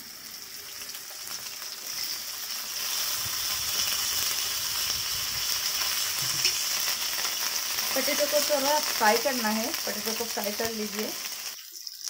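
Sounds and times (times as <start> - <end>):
potato chunks sizzling in oil: 0.0 - 12.0.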